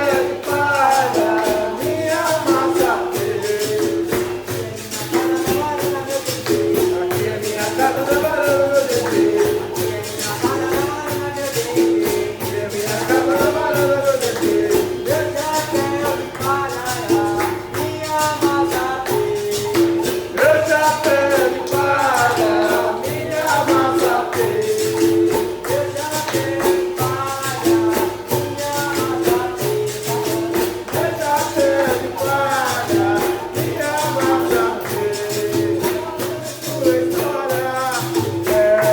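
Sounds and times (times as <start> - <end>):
frame drum with jingles: 0.0 - 38.9
voices singing: 0.0 - 38.9.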